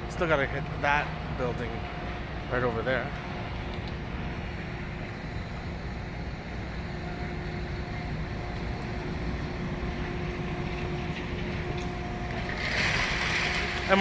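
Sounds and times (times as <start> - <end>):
low outdoor rumble: 0.0 - 14.0
mid-pitched hum: 0.0 - 14.0.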